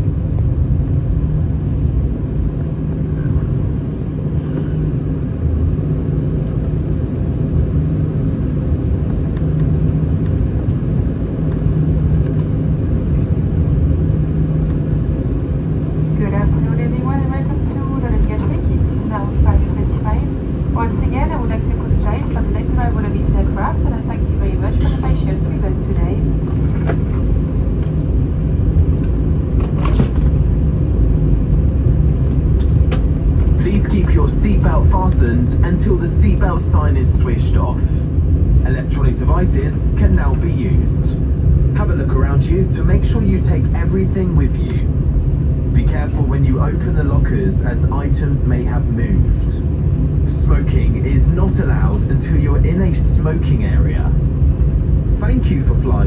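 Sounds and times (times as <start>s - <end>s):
airplane cabin rumble: 0.0s - 56.0s
steady hum: 0.0s - 56.0s.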